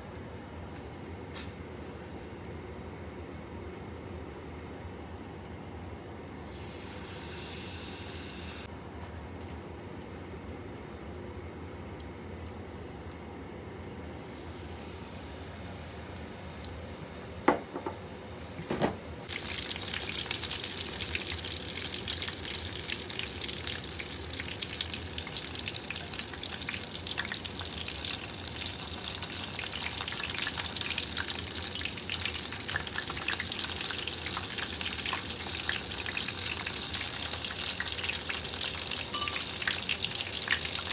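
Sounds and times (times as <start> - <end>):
food deep-frying in oil: 6.2 - 17.8, 19.3 - 40.9.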